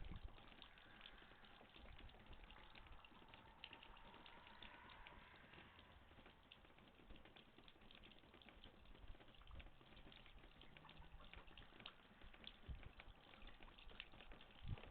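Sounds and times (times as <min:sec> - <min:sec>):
faint ticking and crackling: 0:00.0 - 0:14.9.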